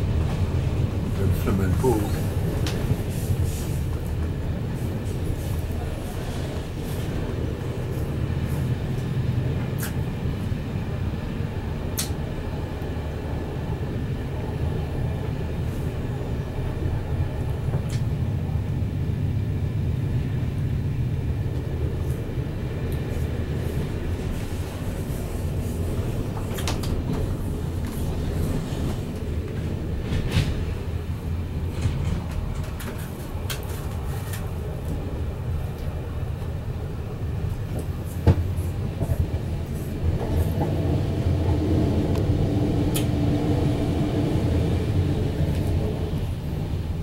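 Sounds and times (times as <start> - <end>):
train rumble inside carriage: 0.0 - 47.0.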